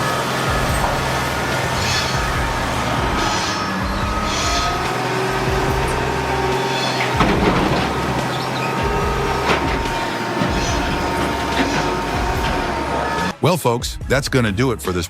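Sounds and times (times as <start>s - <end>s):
heavy machinery running: 0.0s - 13.4s
high metallic squealing: 0.0s - 13.4s
sharp metallic clanks: 0.0s - 13.4s.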